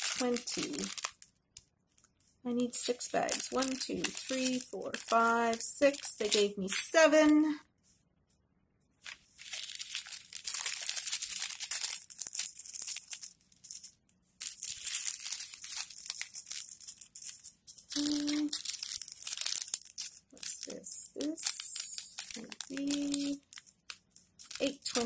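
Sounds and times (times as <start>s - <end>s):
plastic bags crinkling: 0.0s - 1.3s, 2.5s - 7.3s, 9.0s - 25.0s.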